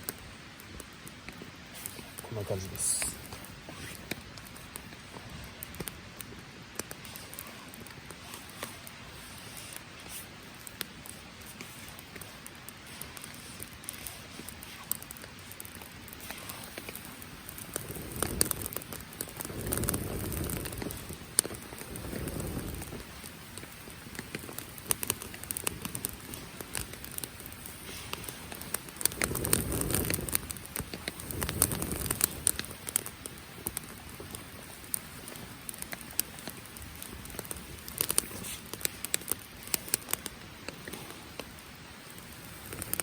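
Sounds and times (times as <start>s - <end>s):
campfire crackling: 0.0s - 43.0s
rain falling: 0.0s - 43.0s
sharp pops and snaps: 0.0s - 43.0s.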